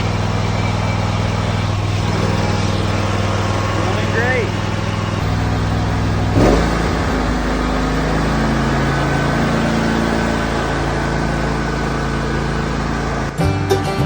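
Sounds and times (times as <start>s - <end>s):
riding mower engine running: 0.0s - 14.0s.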